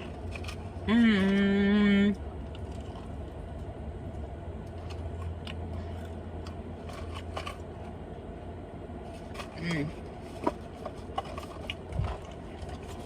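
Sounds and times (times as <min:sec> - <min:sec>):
chewing and handling food: 0:00.0 - 0:01.5, 0:02.1 - 0:08.0, 0:09.0 - 0:13.0
steady low hum: 0:00.0 - 0:13.0.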